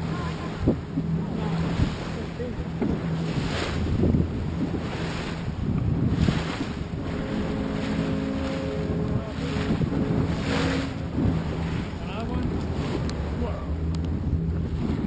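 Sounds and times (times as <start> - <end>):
motor hum: 0.0 - 15.0
water splashing against hull: 0.0 - 15.0
wind buffeting microphone: 0.0 - 15.0.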